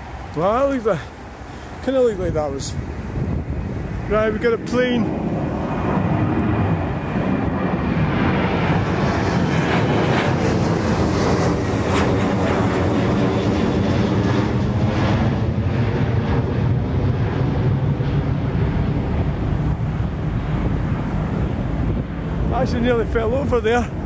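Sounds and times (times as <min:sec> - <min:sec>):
airliner engines passing overhead: 0:00.0 - 0:24.0.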